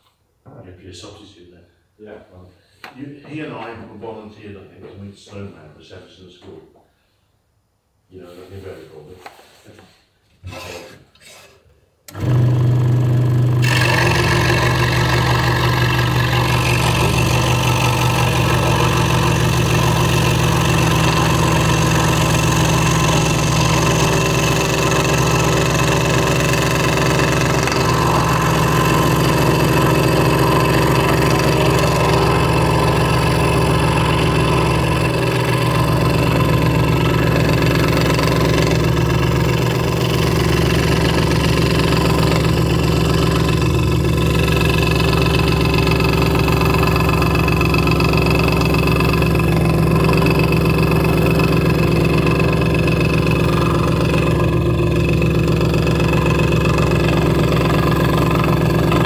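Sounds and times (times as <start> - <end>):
scroll saw cutting wood: 10.4 - 59.0.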